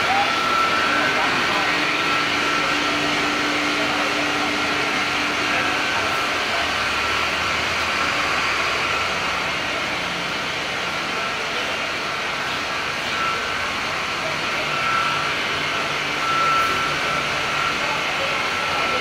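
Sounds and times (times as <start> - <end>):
high whine: 0.0 - 19.0.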